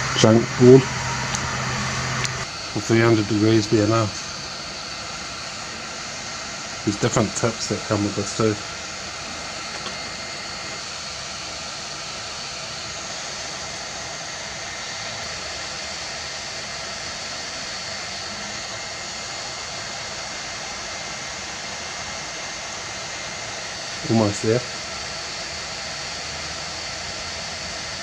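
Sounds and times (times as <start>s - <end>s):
faint high whine: 0.0s - 28.0s
hot air nozzle hissing: 0.0s - 28.0s.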